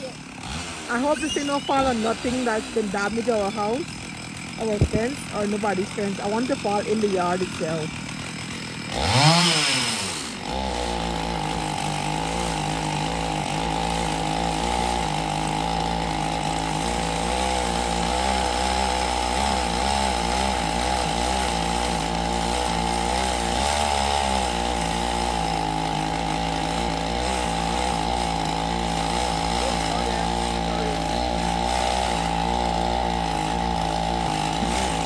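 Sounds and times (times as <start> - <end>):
chainsaw cutting tree trunk: 0.0 - 35.0.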